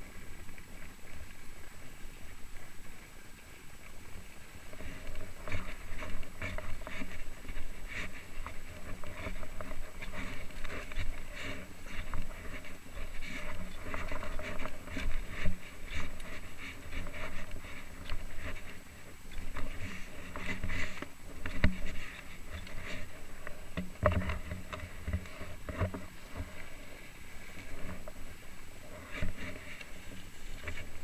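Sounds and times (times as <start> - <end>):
skis scraping on snow: 0.0 - 31.0
wind rumbling on microphone: 0.0 - 31.0.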